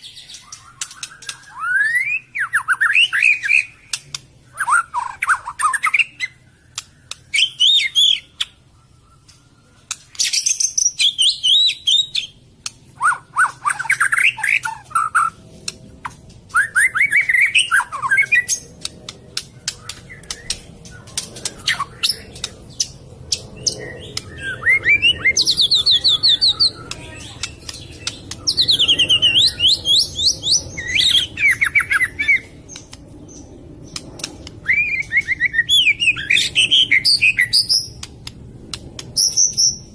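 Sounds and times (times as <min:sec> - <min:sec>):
songbird singing: 0:00.0 - 0:39.9
bird rapid clicking calls: 0:00.3 - 0:02.0, 0:03.2 - 0:08.6, 0:09.2 - 0:39.9.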